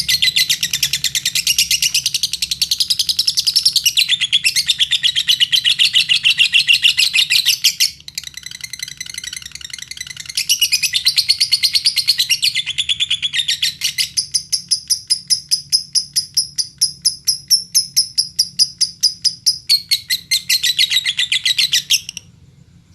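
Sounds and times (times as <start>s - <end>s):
lovebird chattering trill: 0.0s - 22.3s.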